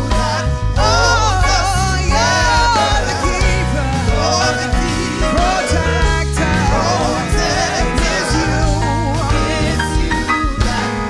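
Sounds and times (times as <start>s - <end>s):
backing vocalists: 0.0s - 11.0s
lead singer: 0.0s - 11.0s
live band with keyboard: 0.0s - 11.0s
strong bass line: 0.0s - 11.0s.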